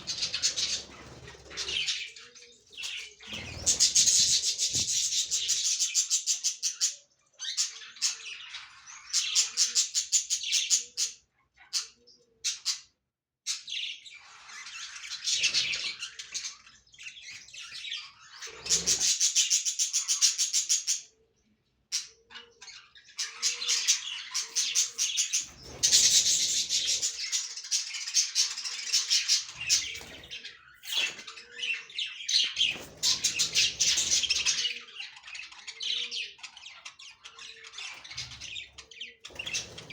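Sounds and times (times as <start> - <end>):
budgies chirping and chattering: 0.0 - 39.9.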